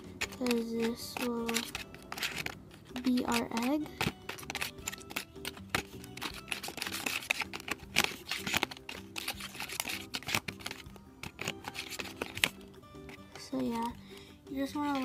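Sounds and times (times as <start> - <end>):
plastic spoon scraping plastic tray: 0.0 - 15.0.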